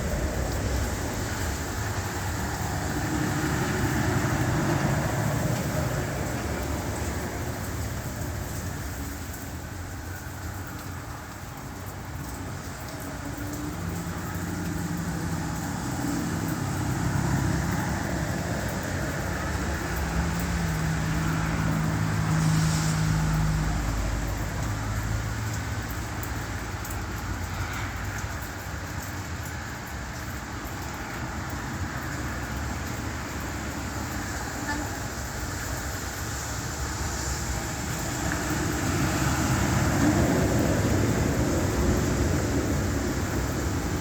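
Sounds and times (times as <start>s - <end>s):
tyre noise on wet road: 0.0s - 44.0s
vehicle engines running: 0.0s - 44.0s.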